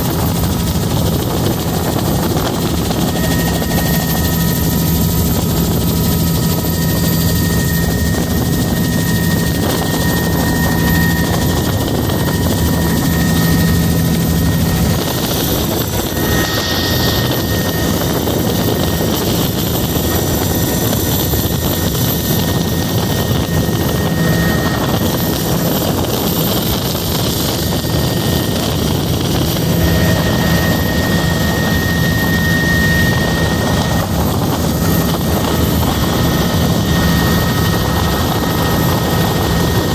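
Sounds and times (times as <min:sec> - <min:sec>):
helicopter rotor and engine noise: 0:00.0 - 0:39.9
high whine: 0:00.0 - 0:39.9.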